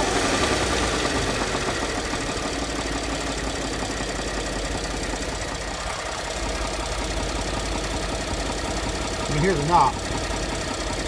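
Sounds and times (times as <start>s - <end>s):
car engine idling: 0.0s - 11.0s
engine knock: 0.0s - 11.0s.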